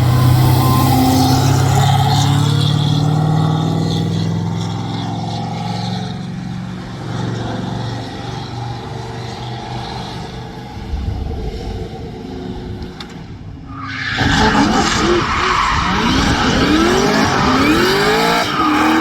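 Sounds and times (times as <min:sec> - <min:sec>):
vehicle engine at high revs: 0:00.0 - 0:11.0, 0:14.2 - 0:19.0.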